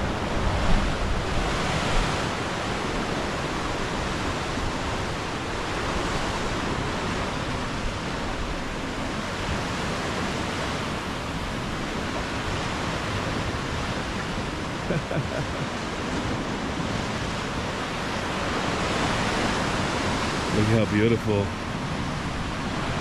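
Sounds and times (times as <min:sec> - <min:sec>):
ocean surf breaking on rocks: 0:00.0 - 0:23.0
wind rumble on microphone: 0:00.0 - 0:23.0.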